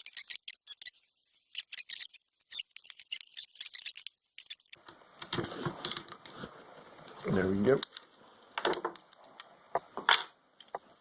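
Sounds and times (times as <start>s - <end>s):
small clicks and scrapes of parts: 0.0s - 6.5s, 7.8s - 9.9s, 10.6s - 10.9s.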